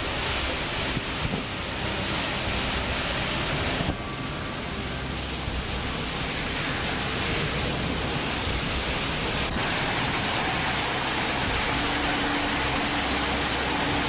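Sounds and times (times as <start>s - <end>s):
heavy storm hiss: 0.0s - 14.0s.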